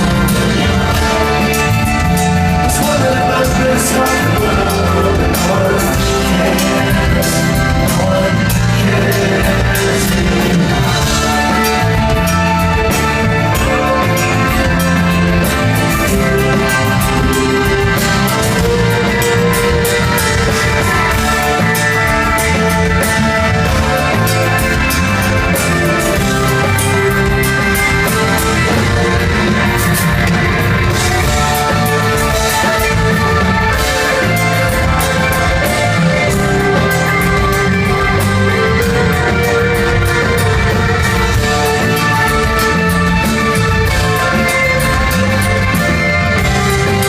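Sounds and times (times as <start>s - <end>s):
electric guitar: 0.0s - 47.0s
live rock band playing: 0.0s - 47.0s.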